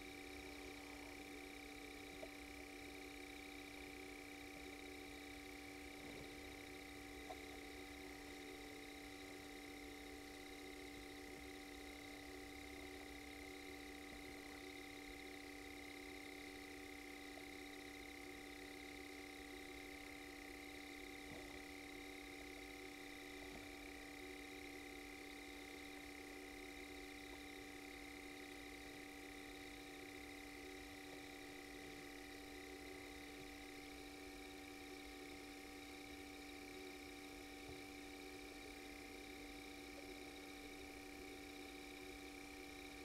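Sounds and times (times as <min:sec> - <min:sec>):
constant low hum: 0:00.0 - 0:43.0.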